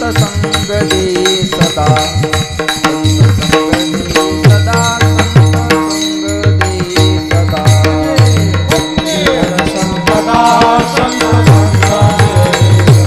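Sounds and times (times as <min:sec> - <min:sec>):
hand drum: 0:00.0 - 0:13.0
harmonium melody: 0:00.0 - 0:13.0
small hand cymbals: 0:00.0 - 0:13.0.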